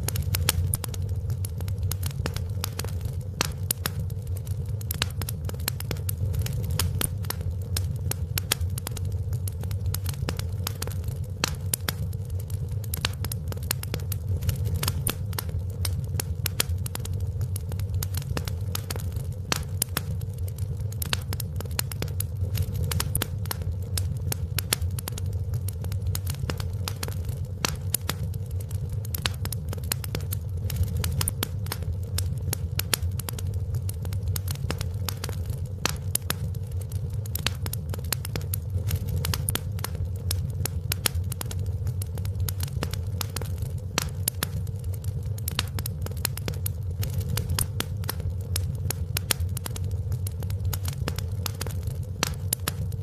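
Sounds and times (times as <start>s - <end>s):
fireplace fire crackling: 0.0s - 53.0s.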